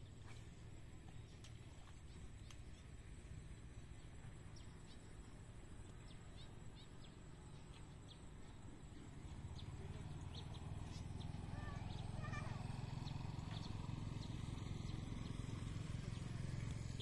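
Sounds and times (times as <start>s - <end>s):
low steady rumble: 0.0s - 17.0s
small birds chirping: 0.0s - 17.0s.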